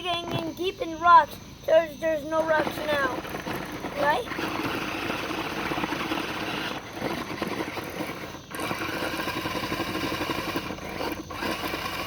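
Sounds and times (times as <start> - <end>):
toy truck motor whirring: 2.0 - 12.0
wheel spinning in gravel: 2.3 - 12.0.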